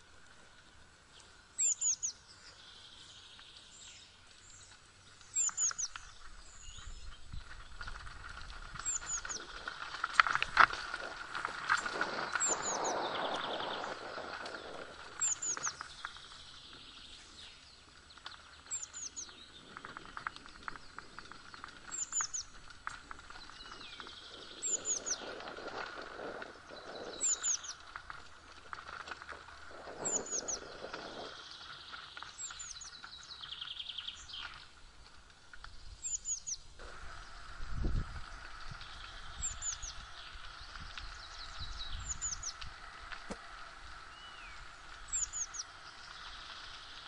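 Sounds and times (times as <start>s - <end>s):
mountain bike rolling on dirt: 0.0s - 47.0s
songbird singing: 0.0s - 47.0s.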